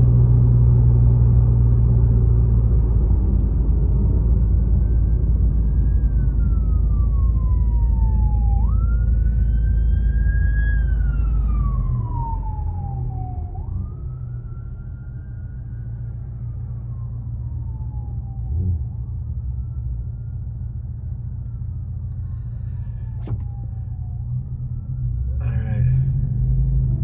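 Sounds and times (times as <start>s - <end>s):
low road rumble: 0.0s - 27.0s
emergency vehicle siren wailing: 3.8s - 26.1s.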